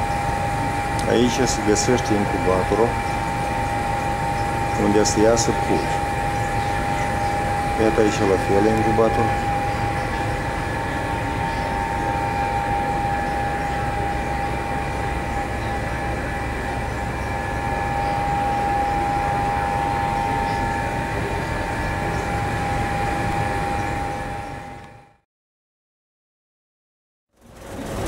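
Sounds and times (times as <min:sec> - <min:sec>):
high-pitched steady tone: 0:00.0 - 0:25.2
incubator mechanical hum: 0:00.0 - 0:25.2, 0:27.4 - 0:28.0.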